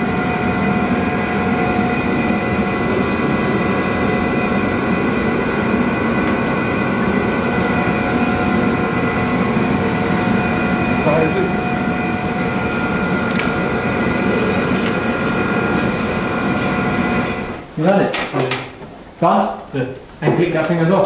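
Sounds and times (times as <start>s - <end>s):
space heater rushing and whining: 0.0s - 21.0s.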